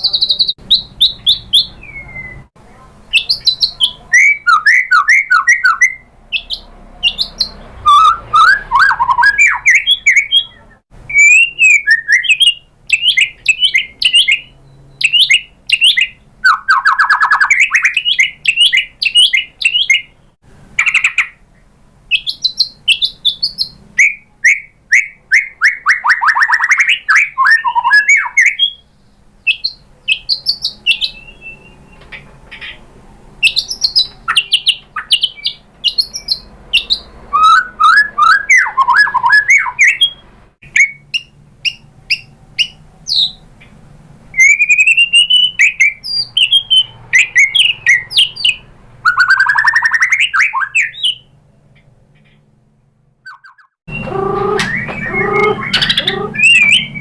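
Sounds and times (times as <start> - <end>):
bird singing varied song: 0.0 - 2.5, 3.1 - 52.5, 53.2 - 57.0.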